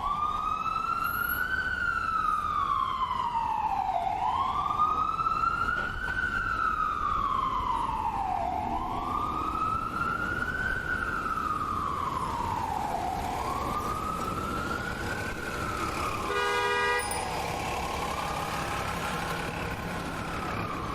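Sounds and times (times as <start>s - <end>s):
ambulance siren wailing: 0.0s - 20.9s
low traffic rumble: 0.0s - 20.9s.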